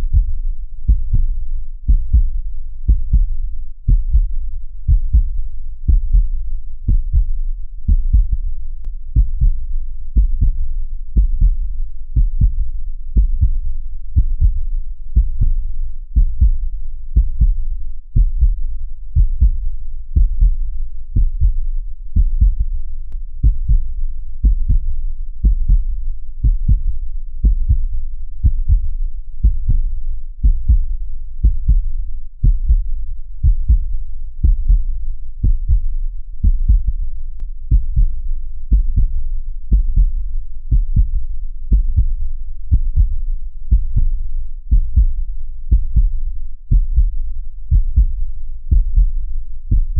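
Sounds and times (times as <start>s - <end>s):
heartbeat thumps: 0.0s - 37.1s, 37.7s - 49.9s
low rumble: 0.0s - 49.9s.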